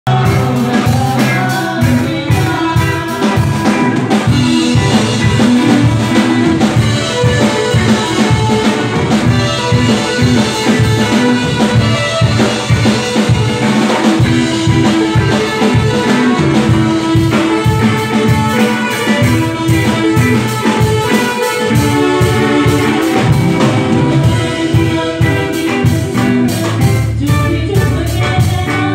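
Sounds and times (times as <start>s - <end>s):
electric guitar: 0.0s - 28.9s
keyboard: 0.0s - 28.9s
drum kit beat: 0.1s - 28.9s.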